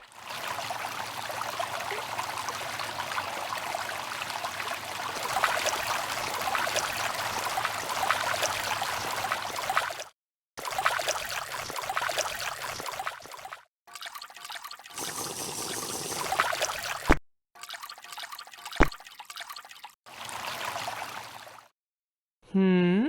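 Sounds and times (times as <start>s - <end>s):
water trickling stream: 0.0s - 21.7s.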